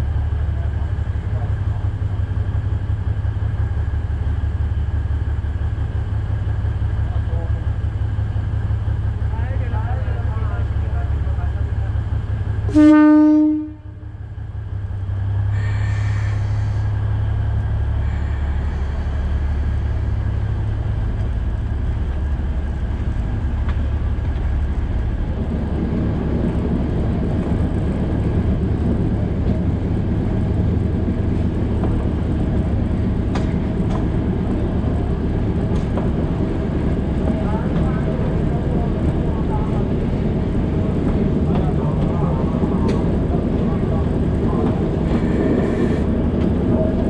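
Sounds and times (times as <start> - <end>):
train engine drone: 0.0 - 47.0.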